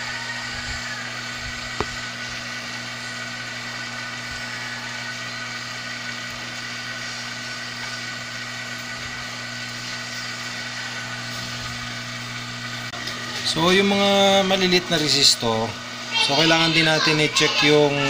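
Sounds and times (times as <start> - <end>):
hot-air gun fan whirring: 0.0 - 18.0.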